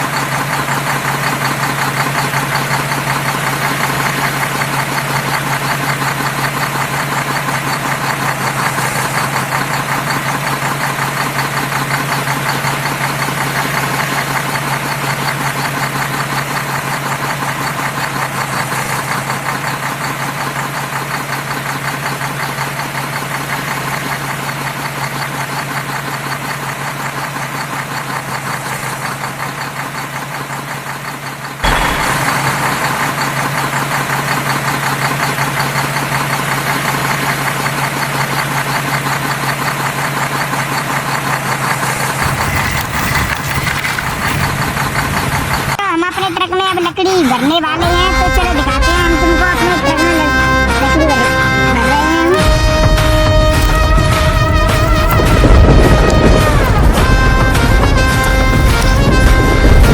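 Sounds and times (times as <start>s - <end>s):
toy truck motor chugging: 0.0s - 59.9s.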